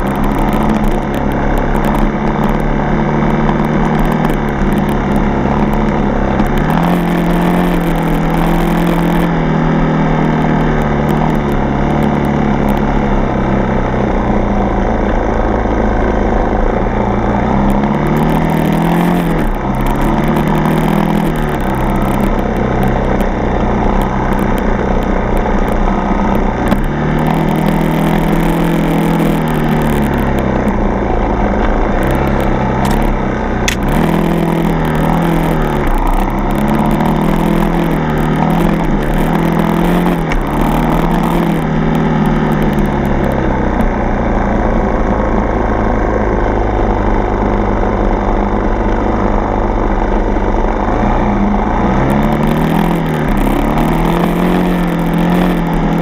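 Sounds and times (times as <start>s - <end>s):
dirt bike engine revving: 0.0s - 46.6s, 49.0s - 56.0s.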